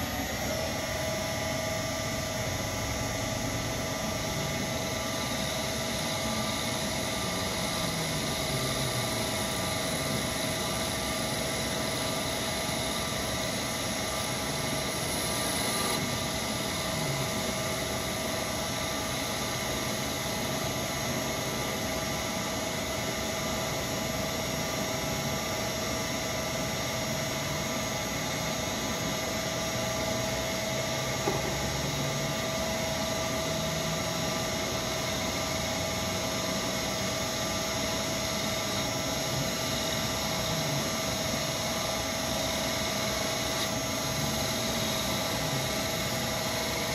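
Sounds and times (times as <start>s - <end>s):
lathe spindle whine: 0.0s - 46.9s.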